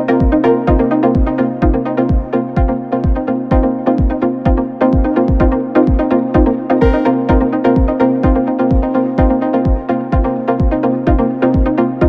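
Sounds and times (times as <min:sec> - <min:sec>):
four-on-the-floor kick drum: 0:00.0 - 0:12.0.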